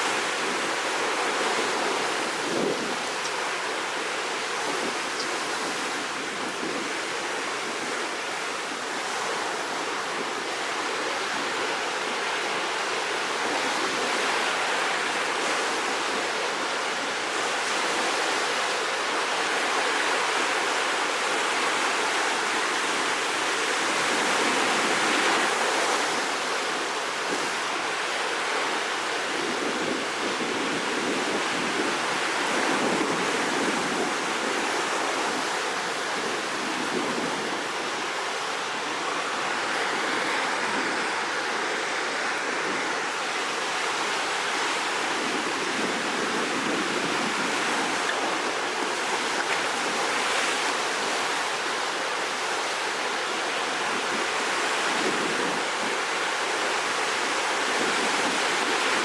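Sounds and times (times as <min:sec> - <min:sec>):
rough sea surf breaking: 0:00.0 - 0:59.0.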